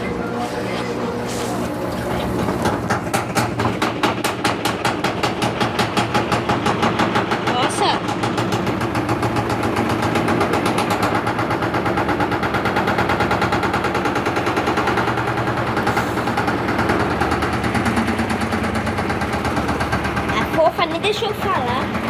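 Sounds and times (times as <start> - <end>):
washing machine rattling knock: 2.4 - 22.0.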